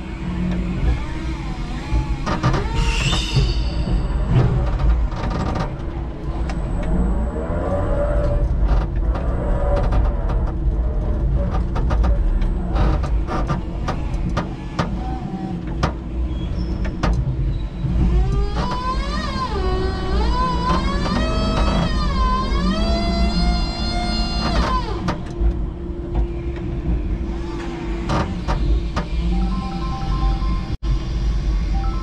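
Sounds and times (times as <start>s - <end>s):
forklift humming and whining: 0.0s - 11.4s, 12.4s - 32.0s.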